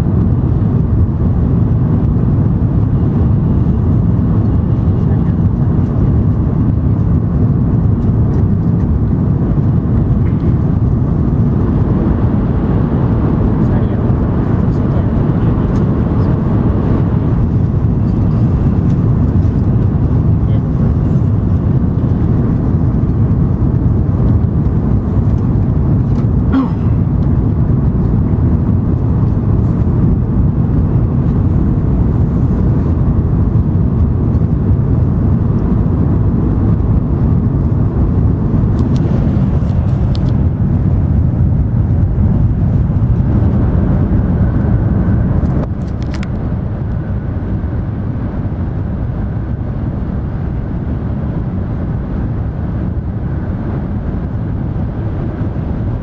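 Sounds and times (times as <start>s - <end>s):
train cabin deep rumble: 0.0s - 56.0s.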